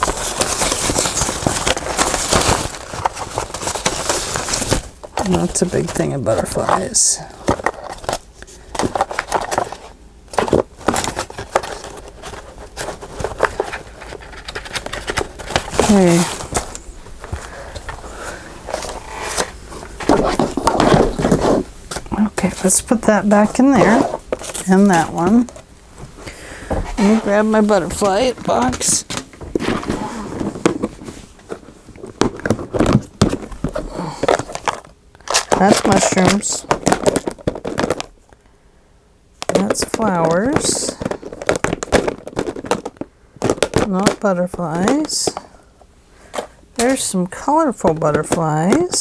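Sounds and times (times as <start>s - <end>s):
paper rustling and tapping: 0.0s - 38.4s, 39.4s - 45.5s, 46.3s - 49.0s.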